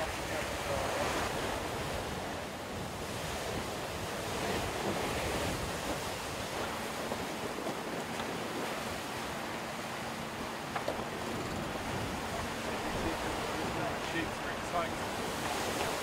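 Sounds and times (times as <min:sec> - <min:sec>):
wind buffeting microphone: 0:00.0 - 0:09.5, 0:11.0 - 0:16.0
water rushing past hull: 0:00.0 - 0:16.0.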